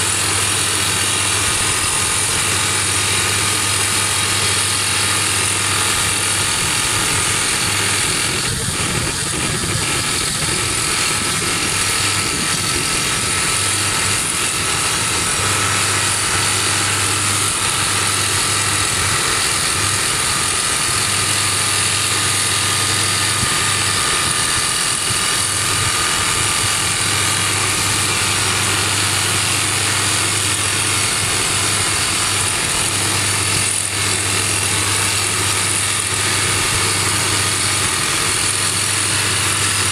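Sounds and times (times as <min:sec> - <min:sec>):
drill rig drilling rock: 0:00.0 - 0:39.9
engine running: 0:00.0 - 0:39.9.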